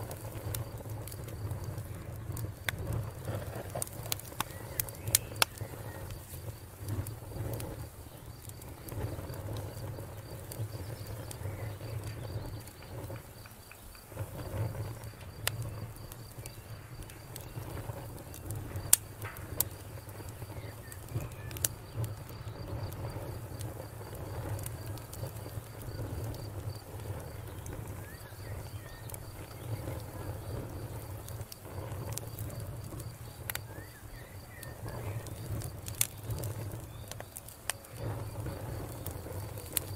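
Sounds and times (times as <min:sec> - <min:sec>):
campfire crackling and popping: 0:00.0 - 0:39.9
faint insect trill: 0:00.0 - 0:39.9.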